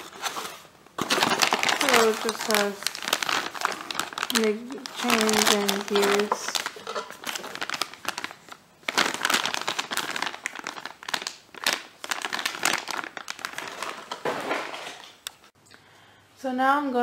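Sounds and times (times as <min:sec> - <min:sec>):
plastic bag crinkling: 0:00.0 - 0:15.2.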